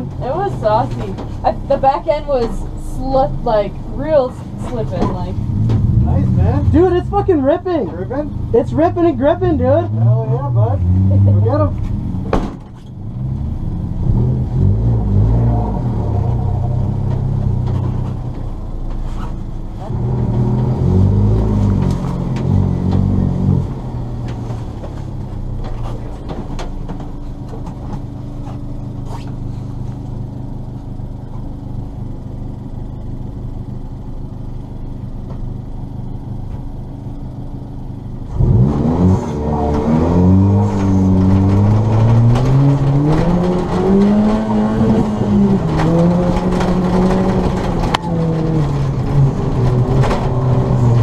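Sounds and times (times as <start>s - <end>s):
rally car engine revving: 0.0s - 30.4s, 38.0s - 51.0s.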